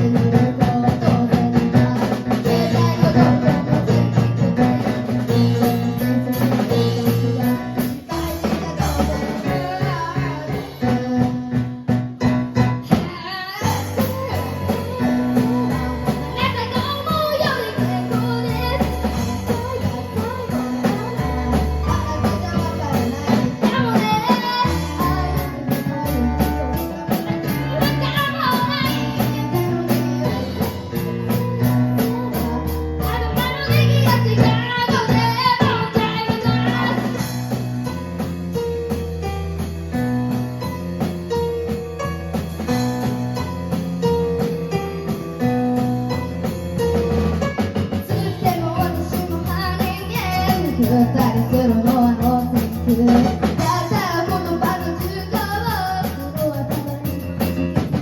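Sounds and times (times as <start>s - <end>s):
person singing: 0.0s - 37.5s, 47.9s - 57.7s
drum kit: 0.0s - 58.0s
keyboard: 0.0s - 58.0s.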